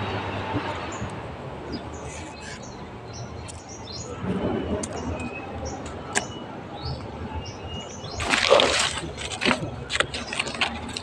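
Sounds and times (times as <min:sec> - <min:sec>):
small birds chirping: 0:00.8 - 0:04.2, 0:04.9 - 0:11.0.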